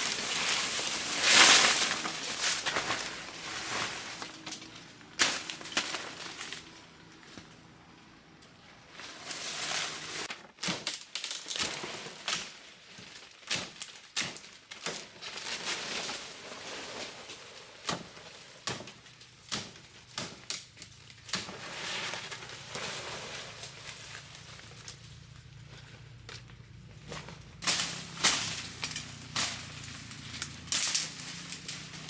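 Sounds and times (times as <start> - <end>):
rustling: 0.0 - 10.3, 10.9 - 32.0.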